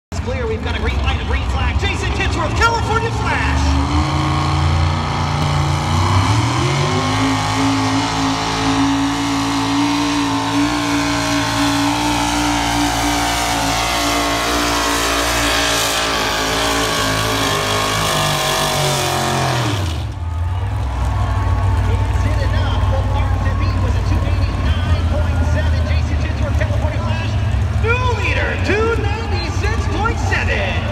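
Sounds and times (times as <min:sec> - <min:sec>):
tractor engine under full load: 0:00.1 - 0:30.9.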